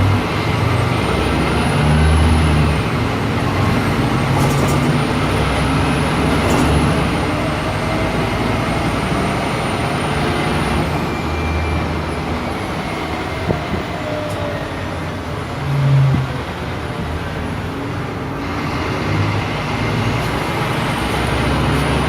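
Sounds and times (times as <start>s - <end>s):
bus diesel engine running: 0.0s - 22.0s
road noise: 0.0s - 22.0s.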